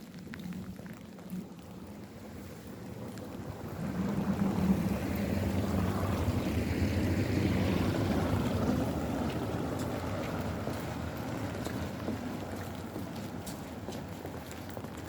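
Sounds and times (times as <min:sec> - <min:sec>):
tyre hiss on wet street: 0:00.1 - 0:15.0
vehicle engine hum: 0:00.1 - 0:15.0.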